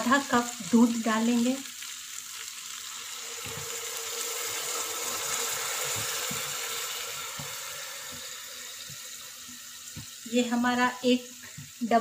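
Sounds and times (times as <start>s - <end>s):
rice sizzling in hot ghee: 0.0s - 12.0s.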